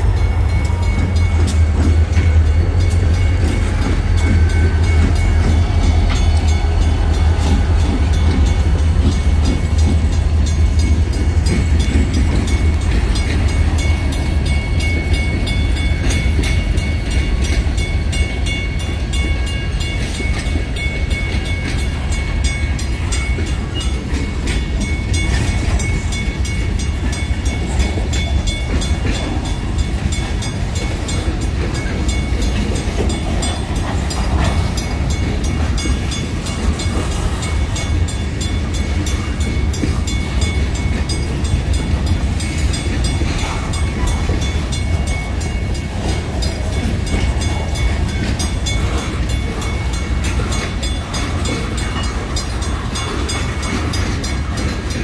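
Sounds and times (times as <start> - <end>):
crossing bell ringing: 0.0 - 55.0
freight train rumbling on rails: 0.0 - 55.0.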